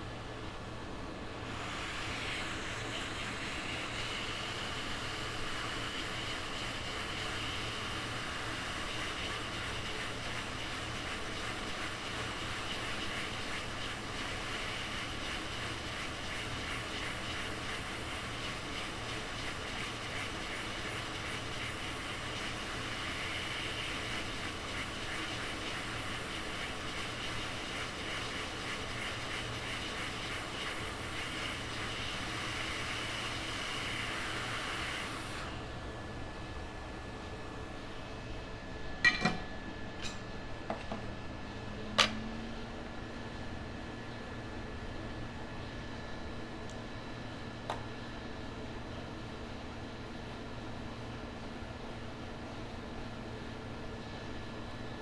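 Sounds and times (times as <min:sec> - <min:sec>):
fan airflow hiss: 0:00.0 - 0:55.0.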